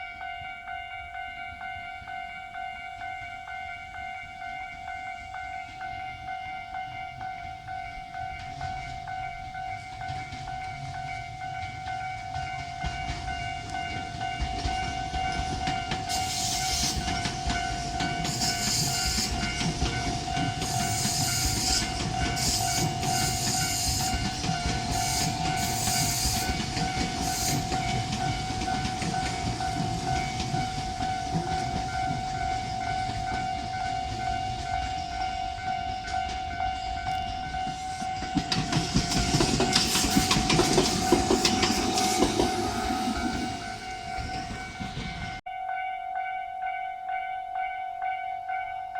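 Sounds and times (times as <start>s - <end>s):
train running on rails: 0.0s - 48.9s.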